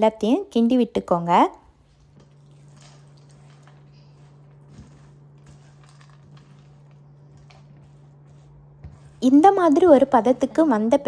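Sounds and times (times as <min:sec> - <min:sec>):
steady low hum: 0:00.0 - 0:11.0
spatula scraping and squishing: 0:01.8 - 0:11.0.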